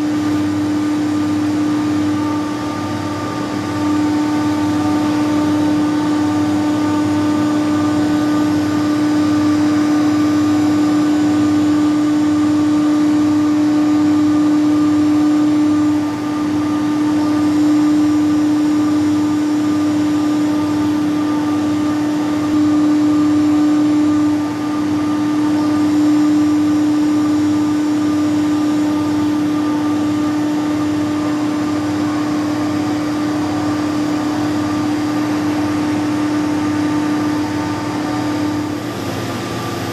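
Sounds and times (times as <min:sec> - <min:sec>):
machine mechanical hum: 0:00.0 - 0:39.9.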